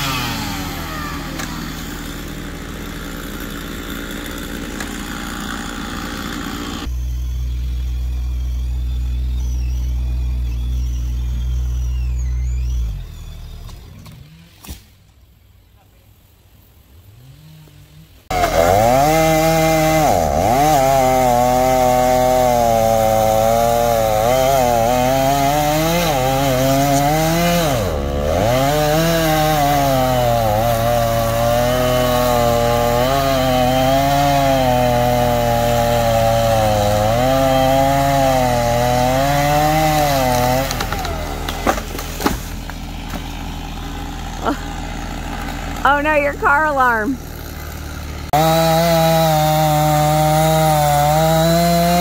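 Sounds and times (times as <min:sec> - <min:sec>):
chainsaw cutting tree trunk: 0:00.0 - 0:14.8, 0:17.1 - 0:52.0.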